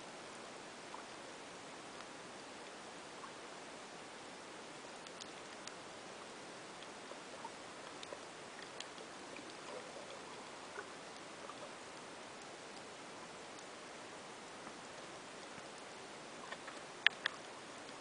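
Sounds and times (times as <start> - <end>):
faint irregular clicks: 1.9 - 3.4, 4.7 - 18.0.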